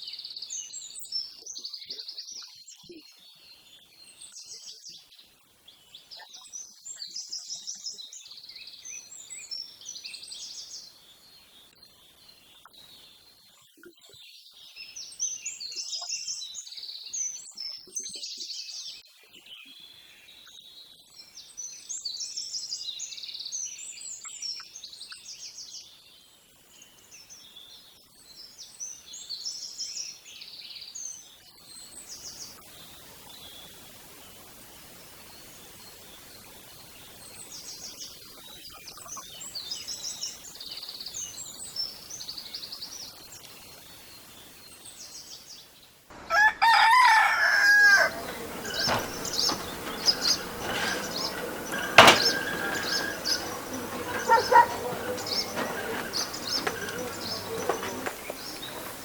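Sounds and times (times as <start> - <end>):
small birds chirping: 0.0 - 46.1, 47.3 - 59.0
faint outdoor hiss: 0.0 - 59.0.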